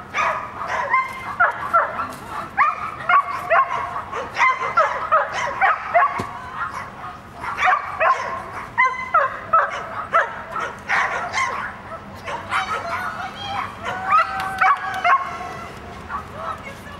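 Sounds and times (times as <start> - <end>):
dog yapping: 0.2 - 15.5.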